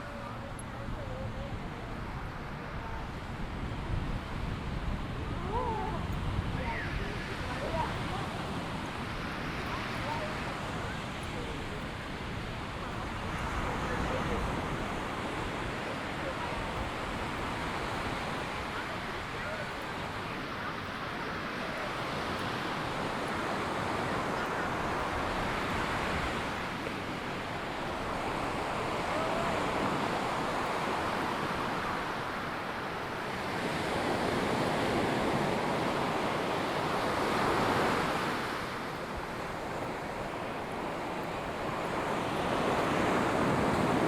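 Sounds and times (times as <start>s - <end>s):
ocean waves breaking on beach: 0.0s - 44.0s
wind: 0.0s - 44.0s.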